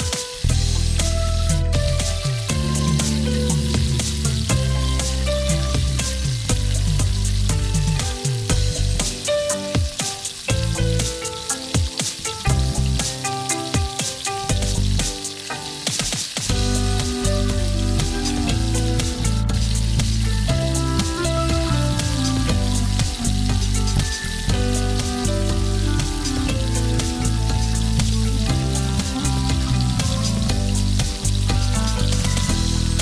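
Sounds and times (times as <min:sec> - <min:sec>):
background music: 0:00.0 - 0:33.0
curry sizzling in a pan: 0:00.0 - 0:33.0.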